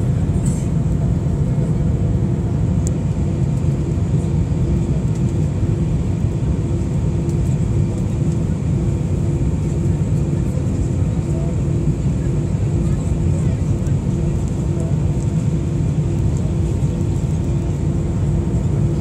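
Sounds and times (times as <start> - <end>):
airplane cabin roar: 0.0 - 19.0
faint pulsing hum: 0.0 - 19.0.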